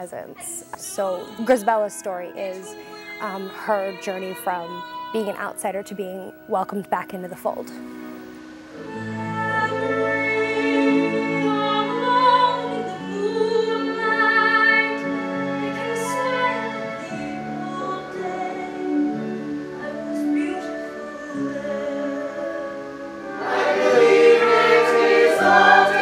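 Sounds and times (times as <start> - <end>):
woman singing a ballad: 0.0 - 7.7, 8.8 - 23.2
sustained accompaniment chords: 0.0 - 26.0.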